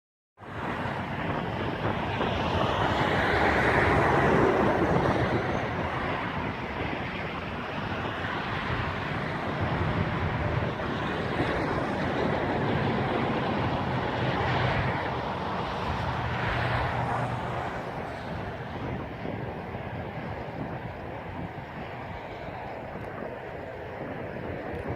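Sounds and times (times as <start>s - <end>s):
combine harvester engine drone: 0.4s - 24.9s.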